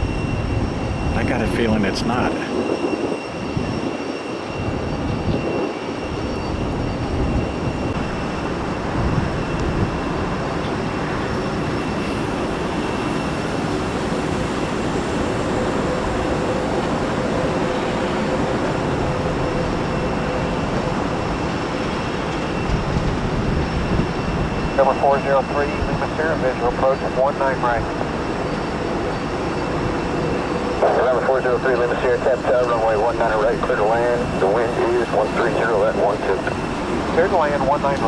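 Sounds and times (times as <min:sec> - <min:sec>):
faint engine whine: 0:00.0 - 0:38.0
jet engine rumble: 0:00.0 - 0:38.0.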